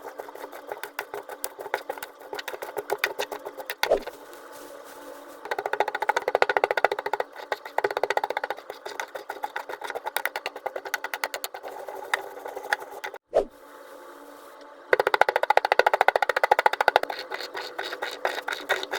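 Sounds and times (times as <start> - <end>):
rapid knocking on stone: 0.2 - 4.0, 5.4 - 13.2, 15.0 - 18.9.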